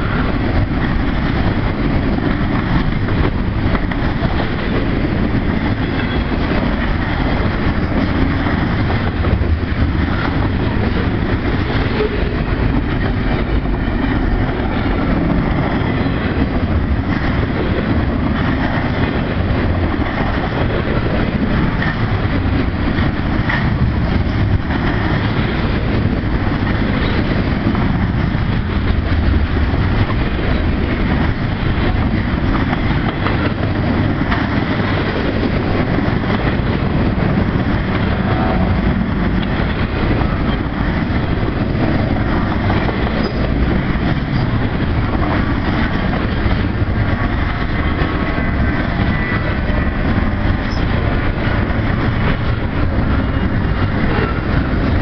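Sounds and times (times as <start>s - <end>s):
freight train wheels rumbling: 0.0s - 55.0s
train clanks: 0.0s - 55.0s.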